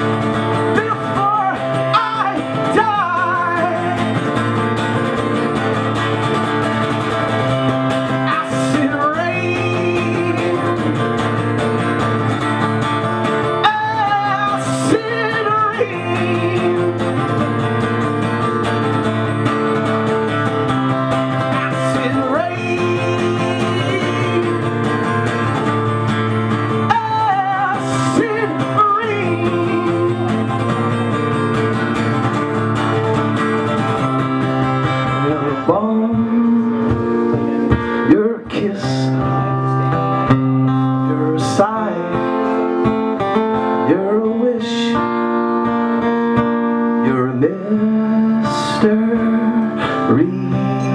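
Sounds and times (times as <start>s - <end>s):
person singing: 0.0s - 20.1s, 20.9s - 31.8s, 32.5s - 45.3s, 47.0s - 50.9s
acoustic guitar strumming: 0.0s - 50.9s.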